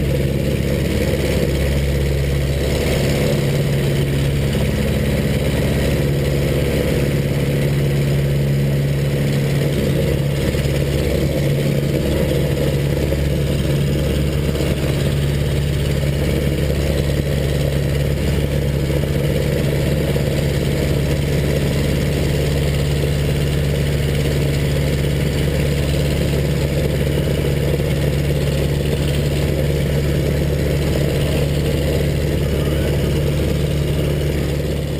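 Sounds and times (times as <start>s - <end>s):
propeller plane engine at full power: 0.0s - 34.9s.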